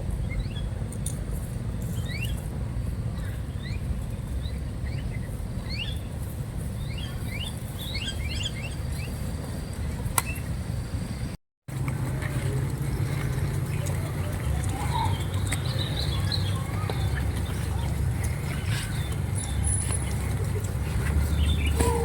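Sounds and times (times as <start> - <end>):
steady low rumble: 0.0 - 22.0
small birds chirping: 0.1 - 0.8, 1.8 - 11.3, 12.1 - 22.0.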